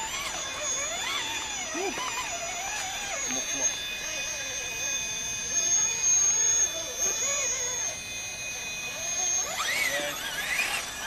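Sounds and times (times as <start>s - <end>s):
toy car electric motor whining: 0.0s - 11.0s.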